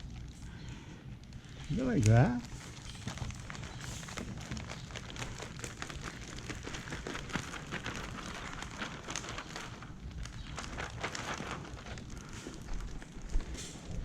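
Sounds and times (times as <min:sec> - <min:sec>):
plastic film crackling: 0:00.0 - 0:14.0.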